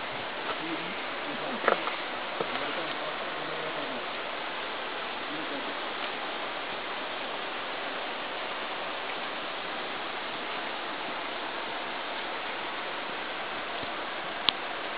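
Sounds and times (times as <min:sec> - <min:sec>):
river rushing through gorge: 0:00.0 - 0:14.9.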